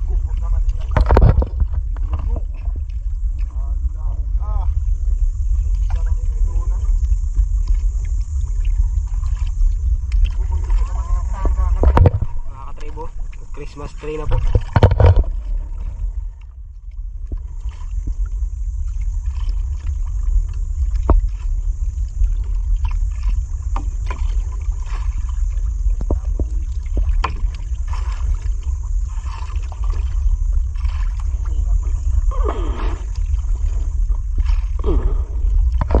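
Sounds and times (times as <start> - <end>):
sea water lapping: 0.0 - 36.0
wind rumble on microphone: 0.0 - 36.0.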